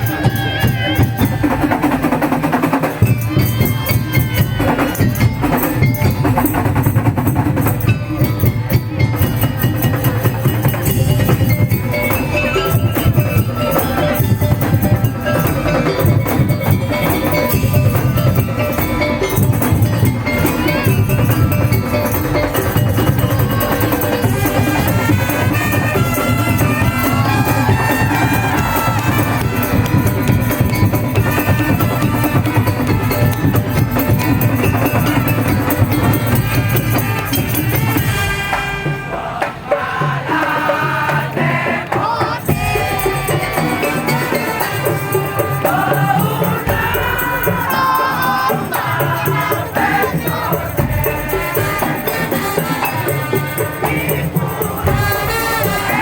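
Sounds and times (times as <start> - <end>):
loud music with drums: 0.0 - 56.0.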